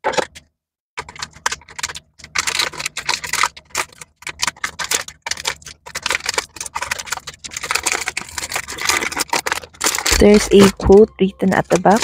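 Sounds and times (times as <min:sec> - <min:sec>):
plastic parts clicking: 0:00.0 - 0:12.0
plastic packaging crinkling: 0:01.0 - 0:12.0.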